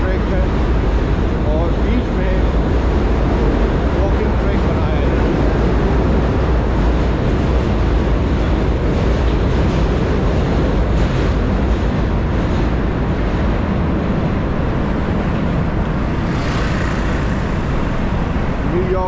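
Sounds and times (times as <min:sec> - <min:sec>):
rumble of bridge traffic: 0:00.0 - 0:19.0
train on tracks: 0:00.0 - 0:19.0.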